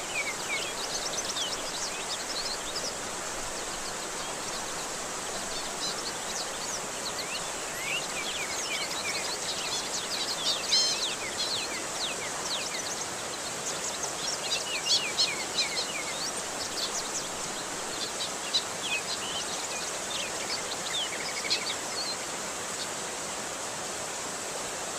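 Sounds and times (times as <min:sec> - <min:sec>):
flowing water rushing: 0:00.0 - 0:24.9.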